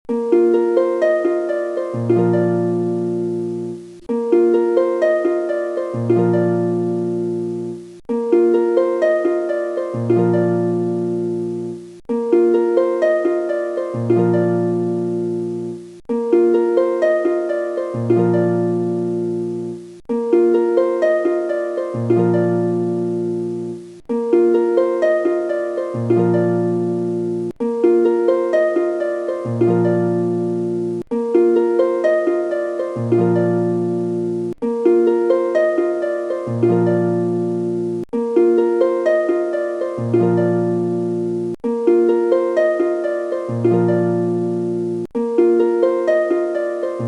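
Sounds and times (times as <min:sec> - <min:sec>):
plucked-string melody: 0:00.0 - 0:47.0.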